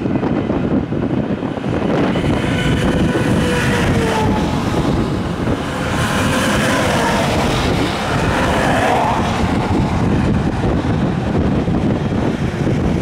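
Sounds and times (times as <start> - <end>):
trucks passing on highway: 0.0 - 13.0.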